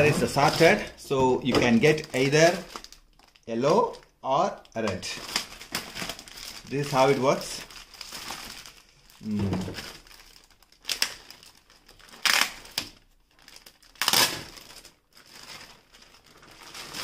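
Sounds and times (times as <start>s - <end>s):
plastic bag crinkling: 0.0s - 4.1s, 5.1s - 17.0s.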